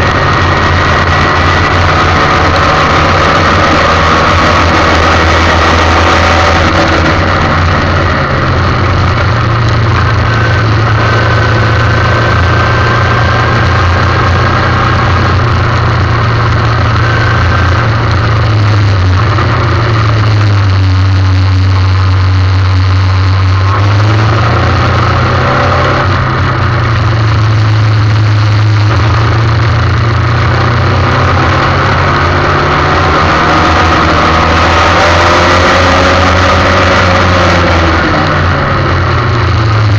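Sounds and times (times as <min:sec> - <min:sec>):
racing car engine at speed: 0:00.0 - 0:39.9.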